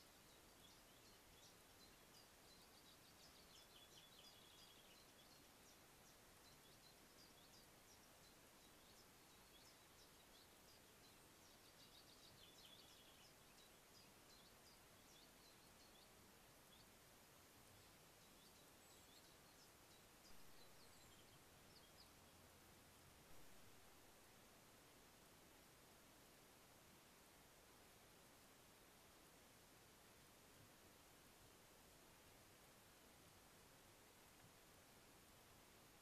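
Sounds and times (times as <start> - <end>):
faint steady hiss: 0.0 - 36.0
songbird chirps: 0.0 - 36.0.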